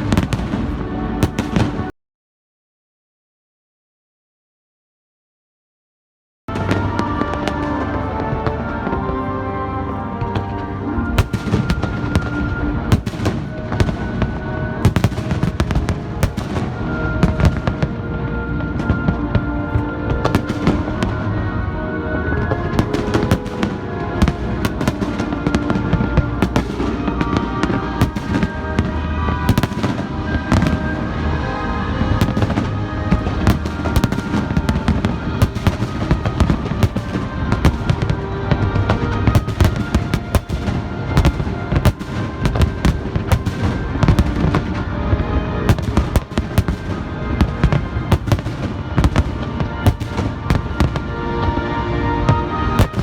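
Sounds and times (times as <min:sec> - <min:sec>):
fireworks bangs and crackles: 0:00.0 - 0:01.9, 0:06.5 - 0:53.0
music playing: 0:00.0 - 0:01.9, 0:06.5 - 0:53.0.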